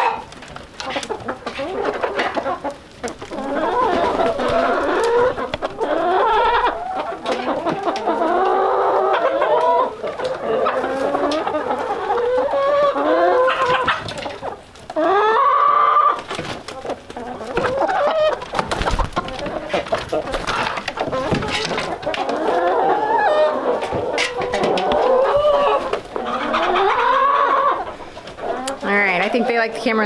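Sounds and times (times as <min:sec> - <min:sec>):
hens clucking and squawking: 0:00.0 - 0:30.0.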